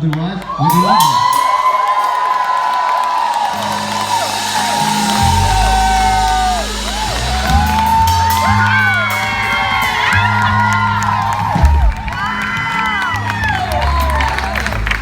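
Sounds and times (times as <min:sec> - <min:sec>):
crowd cheering and whooping: 0:00.2 - 0:15.0
band playing low held notes: 0:02.4 - 0:15.0.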